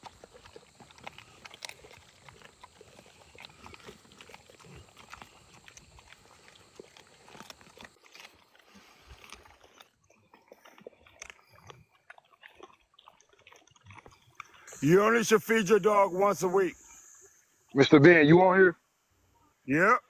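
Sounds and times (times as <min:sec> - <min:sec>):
dogs crunching and chewing bones: 0:00.0 - 0:16.8.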